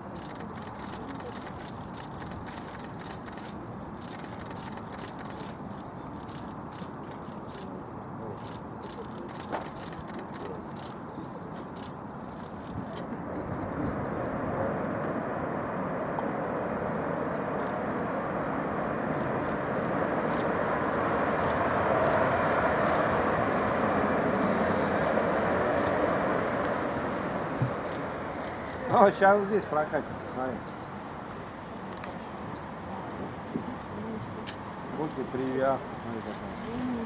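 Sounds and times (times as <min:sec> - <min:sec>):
jet engines rushing: 0:00.0 - 0:37.0
small birds chirping: 0:00.0 - 0:37.0.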